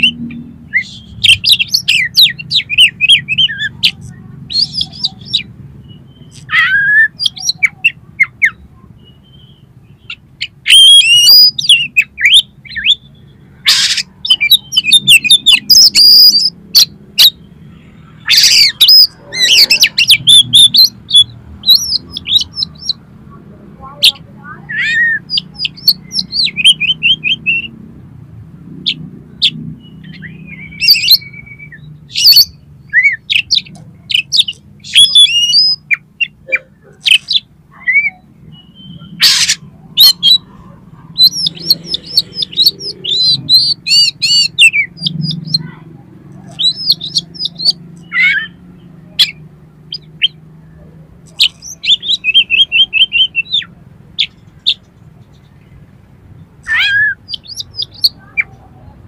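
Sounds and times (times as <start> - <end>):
bird singing whistles and trills: 0.0 - 17.5, 18.2 - 23.0, 24.0 - 27.7, 28.9 - 40.5, 41.2 - 45.7, 46.5 - 50.4, 51.4 - 54.8, 56.6 - 58.5.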